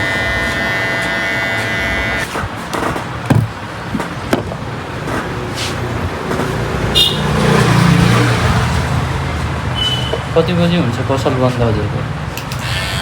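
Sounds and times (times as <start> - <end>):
road traffic noise: 0.0 - 13.0
vehicle engine: 0.2 - 13.0.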